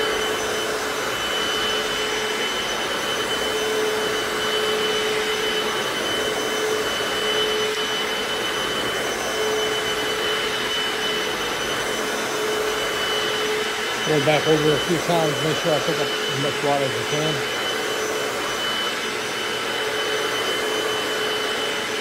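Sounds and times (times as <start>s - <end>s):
floor cleaner motor whining: 0.0s - 22.0s.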